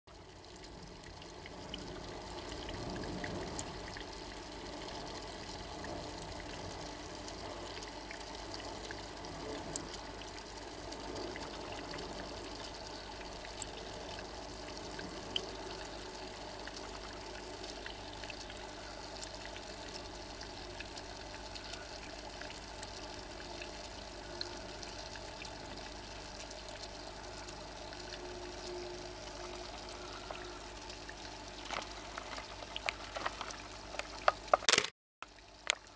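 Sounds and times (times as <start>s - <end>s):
water trickling: 0.1s - 35.9s.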